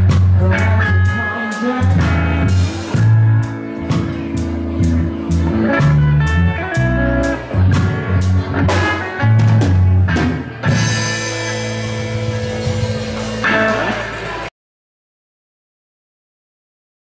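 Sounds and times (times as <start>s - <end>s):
reggae band playing: 0.0s - 14.5s.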